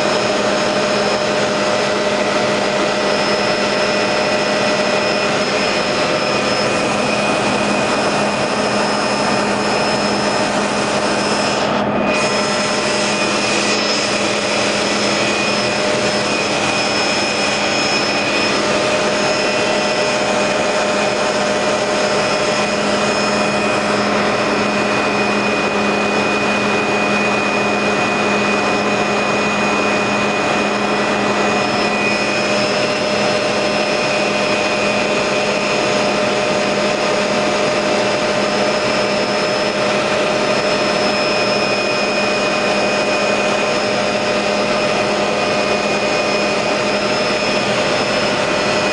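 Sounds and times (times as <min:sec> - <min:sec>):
aircraft cabin engine drone: 0:00.0 - 0:48.9.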